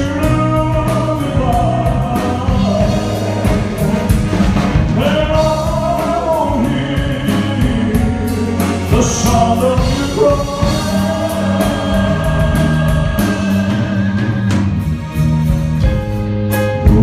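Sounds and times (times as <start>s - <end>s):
musical accompaniment: 0.0s - 17.0s
person singing live: 0.0s - 17.0s.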